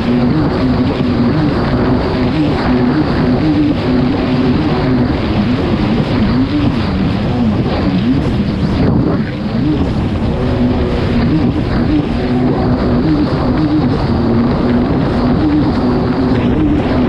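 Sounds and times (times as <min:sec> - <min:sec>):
jet ski engine running hard: 0:00.0 - 0:17.0
rush of wind and water: 0:00.0 - 0:17.0.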